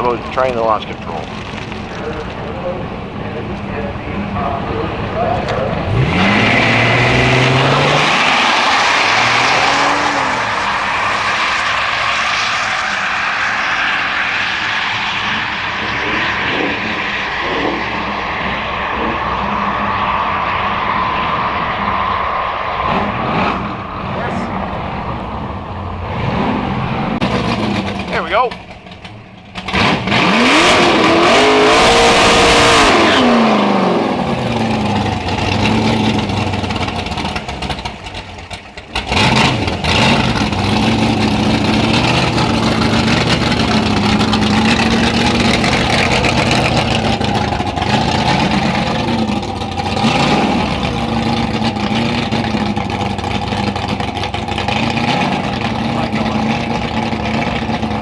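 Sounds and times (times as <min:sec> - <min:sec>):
another car engine running: 0:00.0 - 0:58.0
car engine revving at launch: 0:00.0 - 0:58.0.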